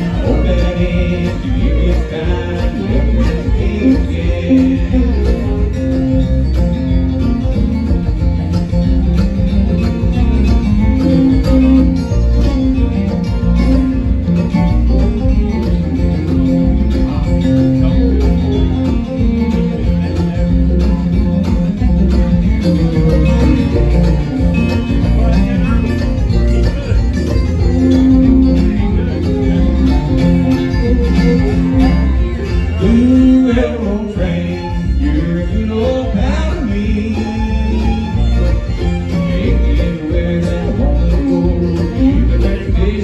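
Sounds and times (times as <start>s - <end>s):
bluegrass band playing: 0.0s - 43.0s
picked guitar: 0.0s - 43.0s.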